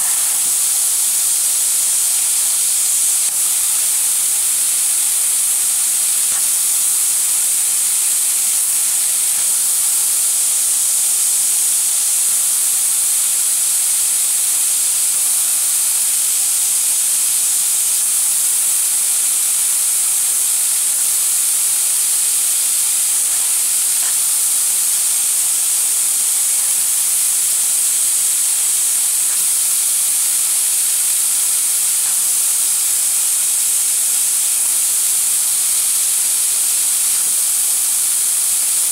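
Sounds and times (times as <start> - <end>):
laser cutter gas jet hiss: 0.0 - 38.9.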